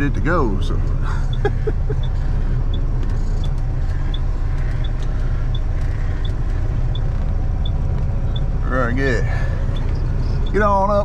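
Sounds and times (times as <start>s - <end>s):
diesel engine idling: 0.0s - 11.0s
light ticking: 0.8s - 8.7s, 9.5s - 10.8s.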